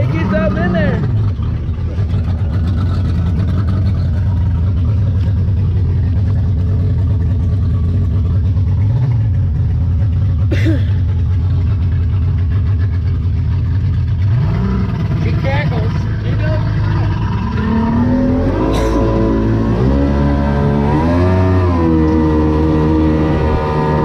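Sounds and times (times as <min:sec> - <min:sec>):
outboard motor drone: 0:00.0 - 0:24.0.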